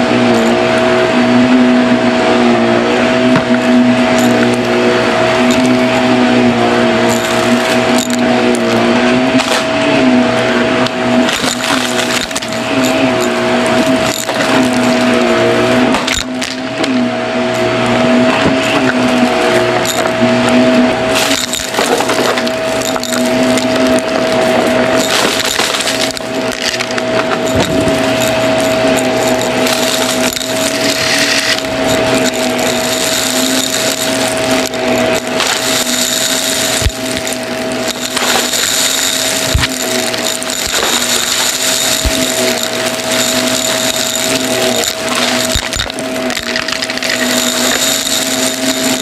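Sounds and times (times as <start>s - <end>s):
debris crackling in vacuum: 0.0s - 49.0s
upright vacuum cleaner whining: 0.0s - 49.0s.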